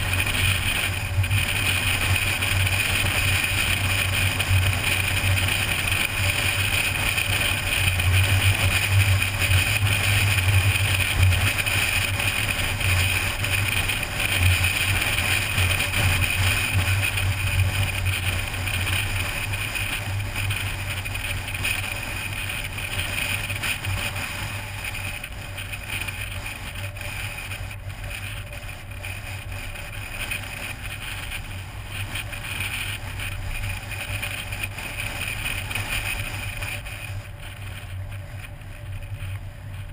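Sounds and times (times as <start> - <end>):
car road and wind noise: 0.0 - 39.9
low hum: 0.0 - 39.9.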